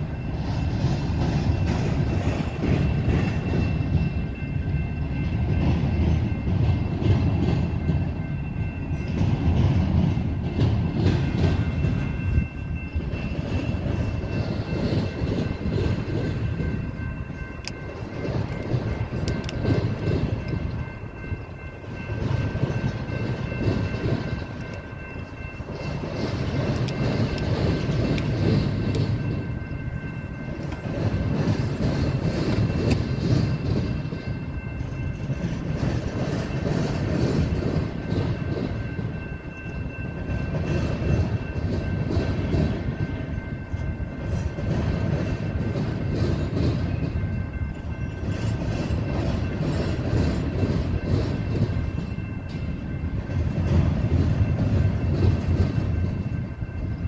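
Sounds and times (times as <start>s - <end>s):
clickety-clack of wheels: 0.0s - 57.0s
freight train wheels rumbling: 0.0s - 57.0s.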